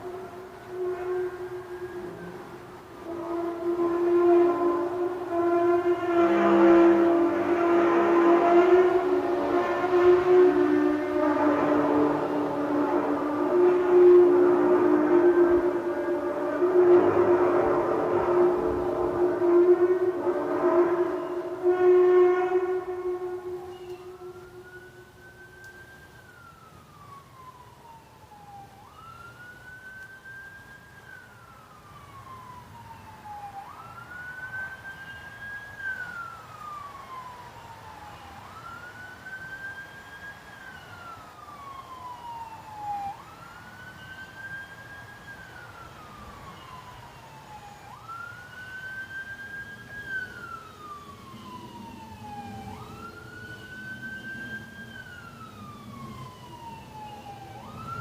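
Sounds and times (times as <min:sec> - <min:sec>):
siren wailing: 0:00.0 - 0:58.0.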